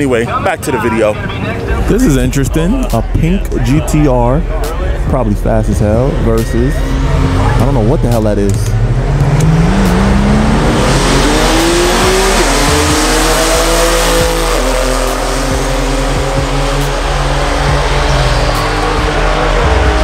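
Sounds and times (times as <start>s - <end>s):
car engines at full throttle: 0.0s - 20.0s.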